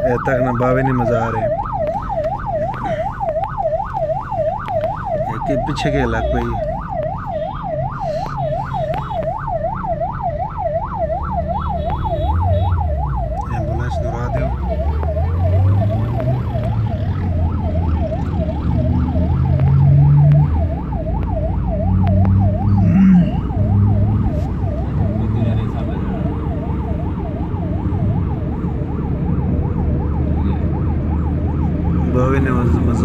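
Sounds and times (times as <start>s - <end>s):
ambulance siren wailing: 0.0s - 33.0s
car engine and road rumble: 0.0s - 33.0s.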